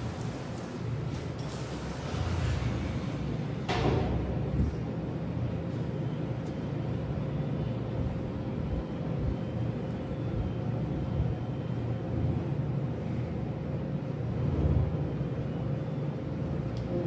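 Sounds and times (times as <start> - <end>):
faint constant hum: 0.0 - 17.0
ventilation machinery rumble: 0.0 - 17.0.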